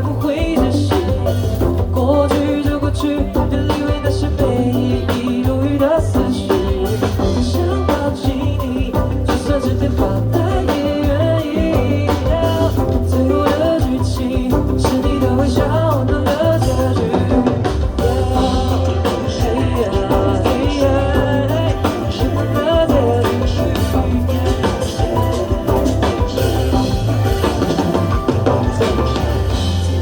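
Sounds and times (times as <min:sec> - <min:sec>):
bass guitar: 0:00.0 - 0:30.0
drum kit: 0:00.0 - 0:30.0
melodic lead line: 0:00.0 - 0:30.0.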